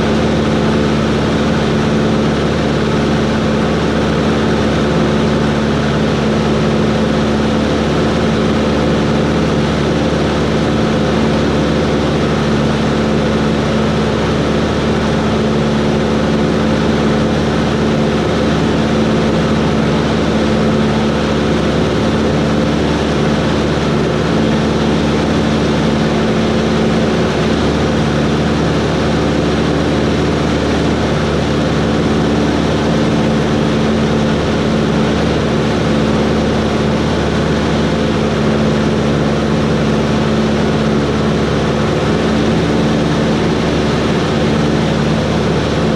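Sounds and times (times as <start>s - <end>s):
propeller plane engine drone: 0.0s - 45.9s.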